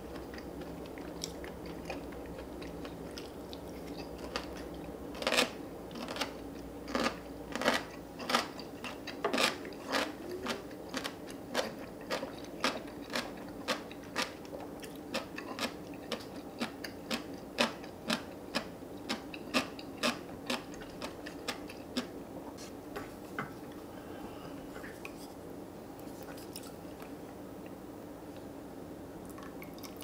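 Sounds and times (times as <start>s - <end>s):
crunchy radish chewing: 0.0s - 25.4s.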